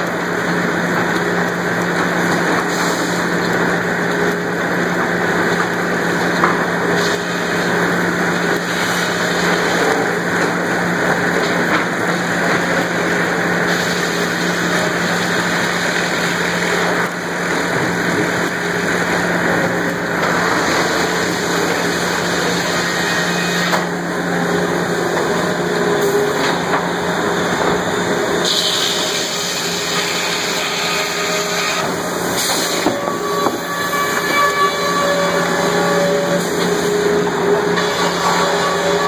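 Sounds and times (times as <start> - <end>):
sawmill machinery din: 0.0 - 39.0.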